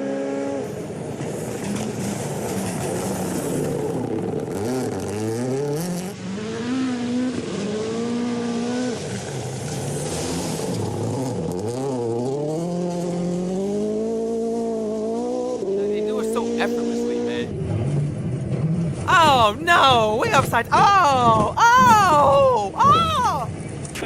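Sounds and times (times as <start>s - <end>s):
rally car engine revving: 0.0s - 19.4s.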